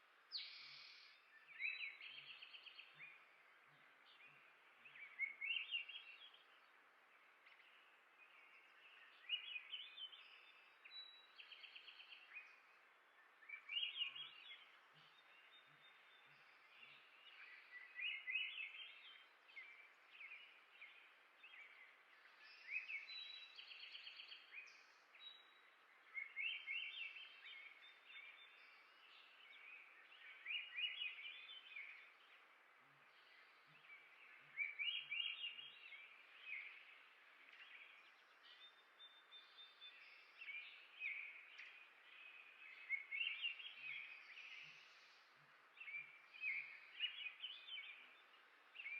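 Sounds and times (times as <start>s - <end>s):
faint outdoor hiss: 0.0s - 48.9s.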